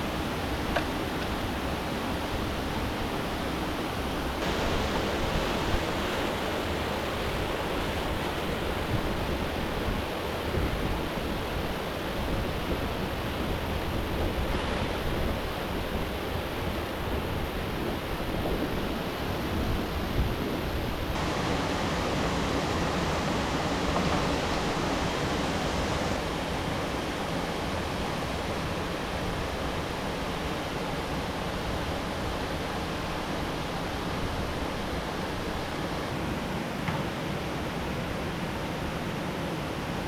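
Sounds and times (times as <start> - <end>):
river water rushing: 0.0 - 20.2, 21.0 - 40.0.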